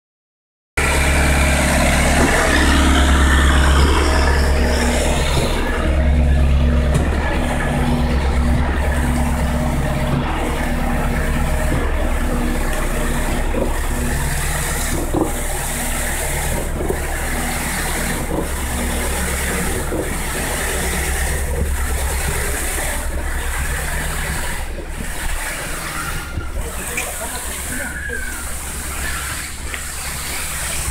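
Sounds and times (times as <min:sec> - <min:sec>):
concrete pump engine pulsing: 0:00.8 - 0:30.9.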